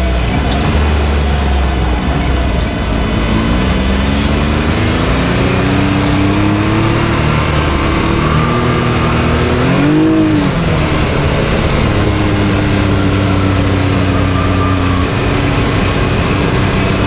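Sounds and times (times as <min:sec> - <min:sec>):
vehicle engine running and revving: 0:00.0 - 0:17.0.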